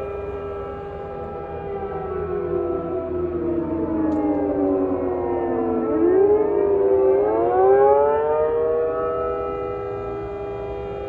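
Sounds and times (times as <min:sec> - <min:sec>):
warning siren sliding pitch: 0:00.0 - 0:11.0.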